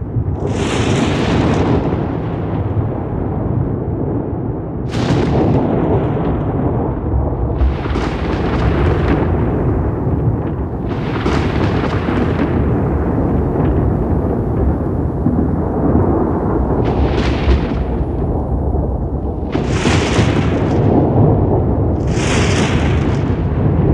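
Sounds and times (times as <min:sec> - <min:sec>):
crackling thunder peals: 0:00.0 - 0:23.9
thunder rumbling: 0:00.0 - 0:23.9.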